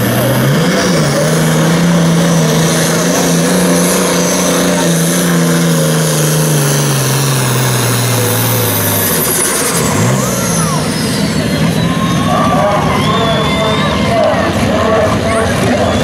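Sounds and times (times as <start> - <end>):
diesel tractor engine under load: 0.0 - 16.0.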